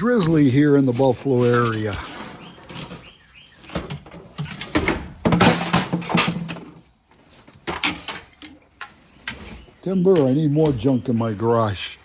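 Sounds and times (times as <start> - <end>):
handling knocks and clunks: 0.0 - 11.8
scraping rattle: 0.0 - 12.0.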